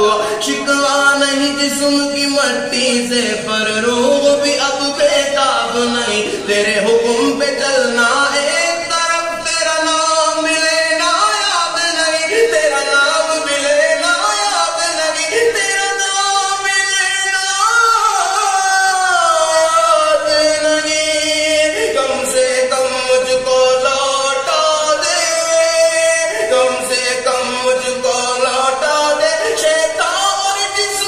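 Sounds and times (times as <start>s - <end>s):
man singing devotional song: 0.0s - 31.0s.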